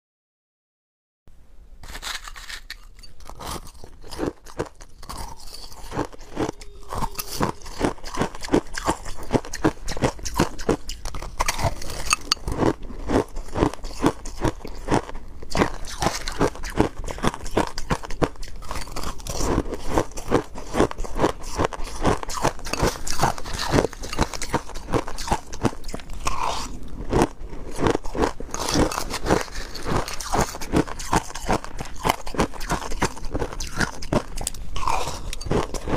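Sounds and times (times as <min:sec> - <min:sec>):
crushed ice chewing crunches: 0:01.8 - 0:35.9.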